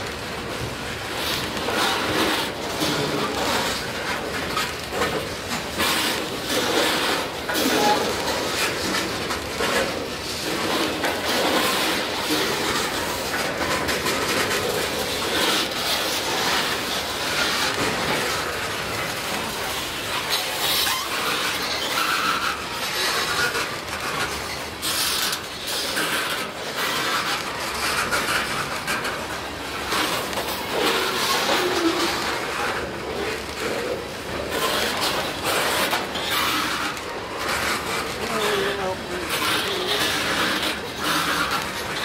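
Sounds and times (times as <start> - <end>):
train wheels clattering on rails: 0.0 - 42.0
wheels clicking over rail joints: 0.0 - 42.0.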